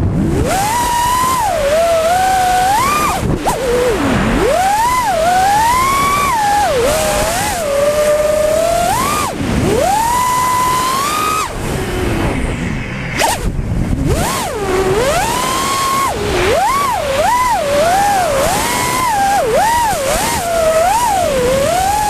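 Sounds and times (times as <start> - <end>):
drone motors whining: 0.0 - 22.0
rush of air: 0.0 - 22.0.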